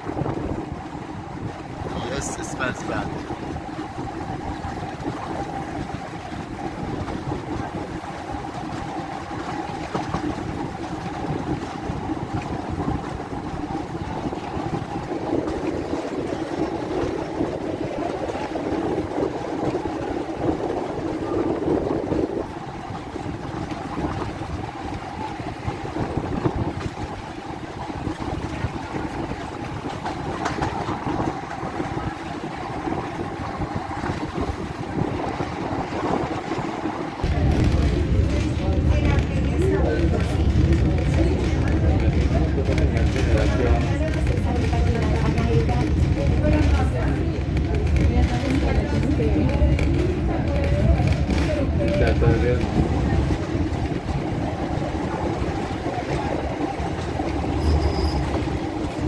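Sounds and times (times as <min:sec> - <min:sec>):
train wheels and engine rumbling: 0:00.0 - 0:59.0.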